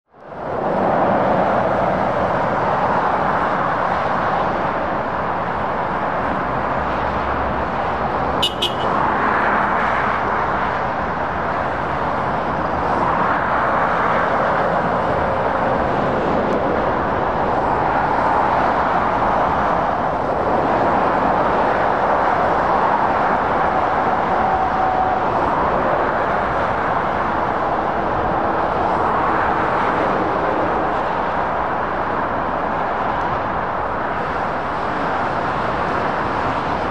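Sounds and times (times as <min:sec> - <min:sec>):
motorway traffic passing: 0:00.1 - 0:36.9.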